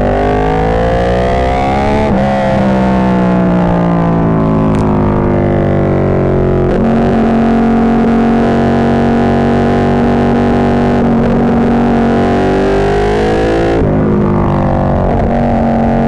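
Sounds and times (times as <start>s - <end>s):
motorcycle engine and exhaust: 0.0s - 16.0s.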